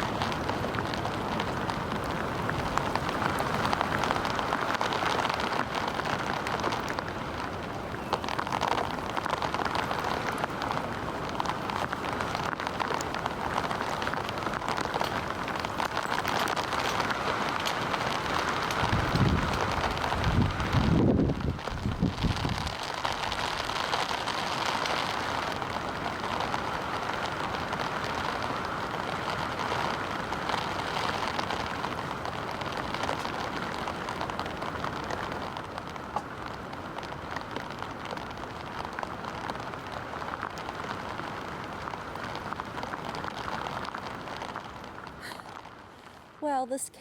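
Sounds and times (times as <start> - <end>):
heavy rain on tent fabric: 0.0 - 47.0.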